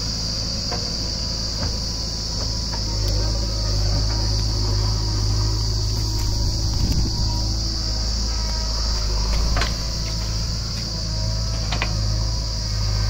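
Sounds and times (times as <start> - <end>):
diesel engines running: 0.0 - 13.0
high-pitched insect buzz: 0.0 - 13.0.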